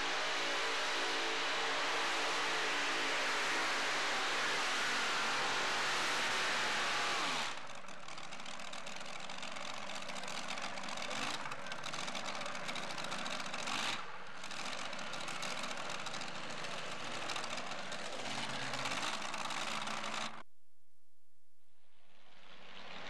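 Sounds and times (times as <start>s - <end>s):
truck engine idling unevenly: 0.0s - 20.4s.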